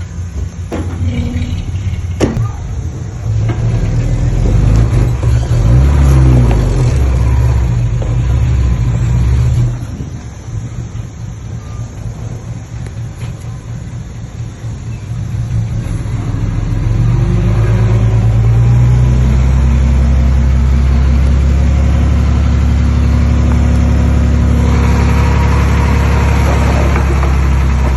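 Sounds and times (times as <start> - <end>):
diesel earthmoving machinery engine: 0.0 - 27.9.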